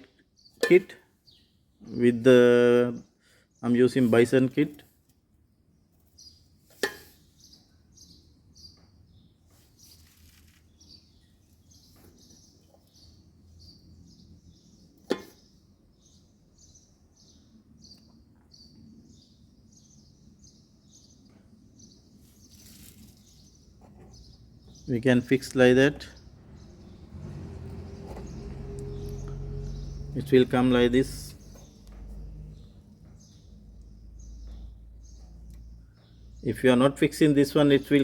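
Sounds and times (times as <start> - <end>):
small bird chirping: 5.7 - 36.5.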